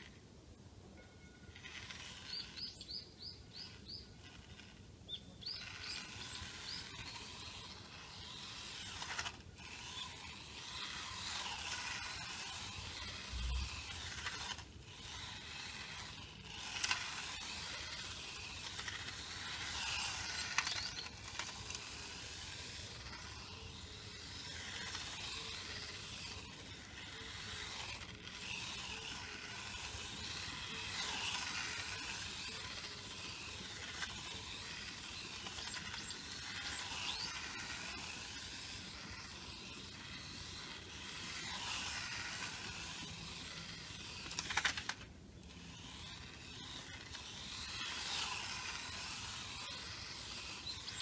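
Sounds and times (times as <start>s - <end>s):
toy car motor whining: 0.0s - 0.2s, 1.5s - 51.0s.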